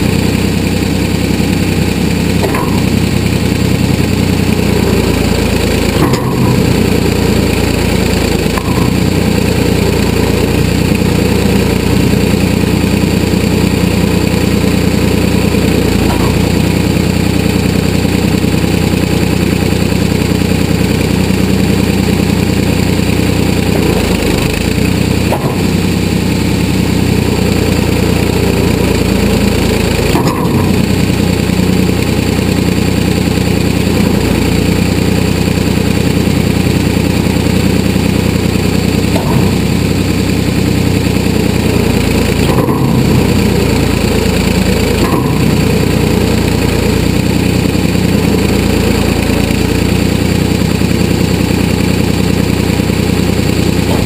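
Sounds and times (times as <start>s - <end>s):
backhoe engine running: 0.0s - 54.0s.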